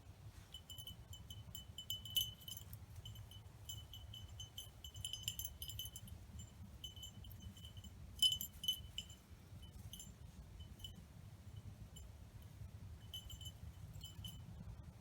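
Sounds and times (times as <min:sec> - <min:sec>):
light metallic tinkling: 0:00.0 - 0:15.0
steady low hum: 0:00.0 - 0:15.0.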